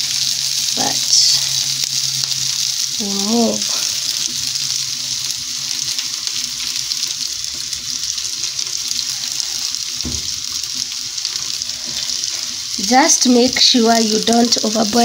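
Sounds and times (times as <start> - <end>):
potatoes sizzling in a pan: 0.0 - 15.0.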